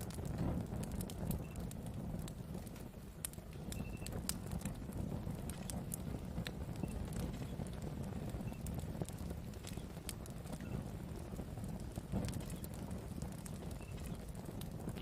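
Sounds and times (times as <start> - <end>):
burning wood crackling and popping: 0.0 - 15.0
wood fire rumbling: 0.0 - 15.0.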